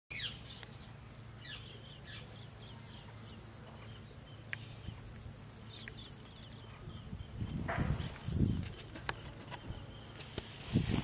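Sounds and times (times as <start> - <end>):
birds chirping: 0.1 - 11.0
steady low hum: 0.1 - 11.0.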